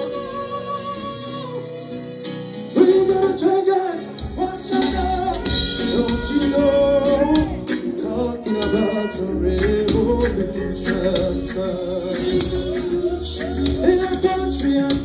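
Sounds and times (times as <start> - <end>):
man singing into microphone: 0.0 - 15.0
reggae music with bass and drums: 0.0 - 15.0.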